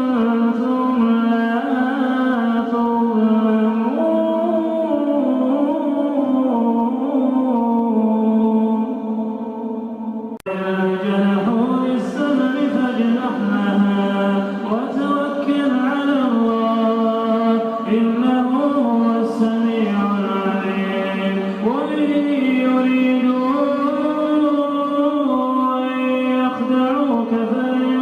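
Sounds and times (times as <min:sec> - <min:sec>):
man reciting melodically: 0:00.0 - 0:28.0.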